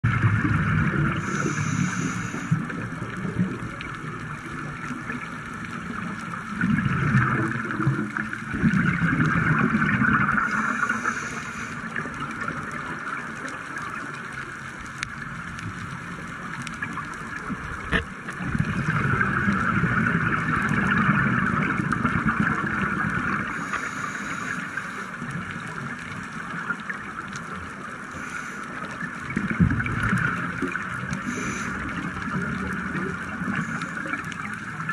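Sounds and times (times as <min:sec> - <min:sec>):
scuba regulator bubbles gurgling: 0:00.0 - 0:34.9
steady underwater hiss: 0:00.1 - 0:34.9.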